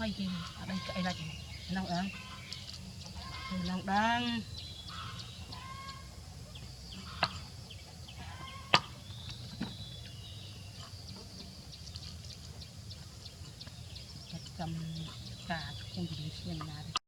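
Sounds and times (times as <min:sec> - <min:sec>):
faint bird chirps: 0:00.0 - 0:16.9
low steady hum: 0:00.0 - 0:17.0.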